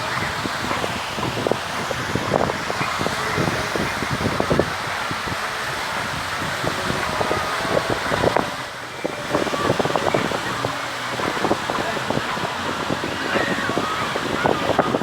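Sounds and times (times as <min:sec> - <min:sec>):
distant voices: 0:00.0 - 0:15.0
traffic rushing: 0:00.0 - 0:15.0
wind buffeting microphone: 0:00.0 - 0:15.0.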